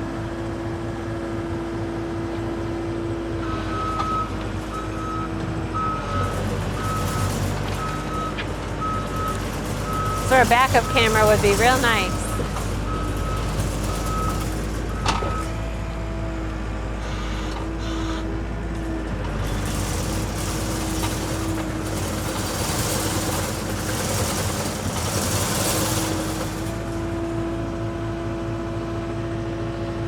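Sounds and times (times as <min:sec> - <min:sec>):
diesel engine running: 0:03.0 - 0:28.6.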